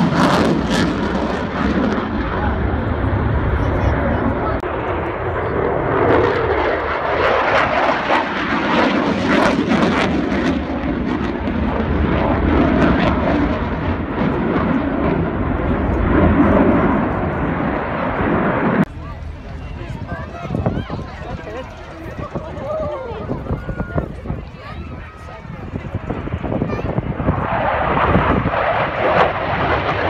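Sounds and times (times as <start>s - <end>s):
aircraft engines roaring: 0.0s - 30.0s.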